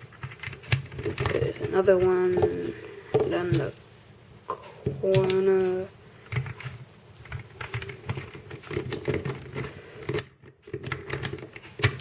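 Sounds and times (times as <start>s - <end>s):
plastic puzzle pieces clicking: 0.0s - 3.8s, 4.8s - 12.0s.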